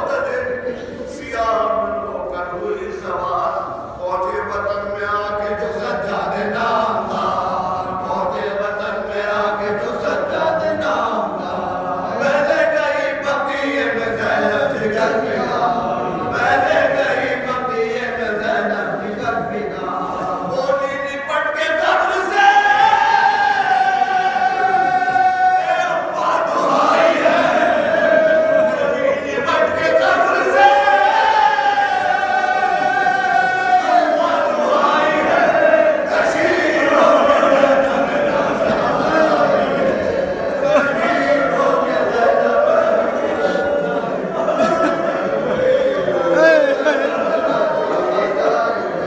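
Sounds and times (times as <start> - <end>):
men chanting in unison: 4.4 - 49.0.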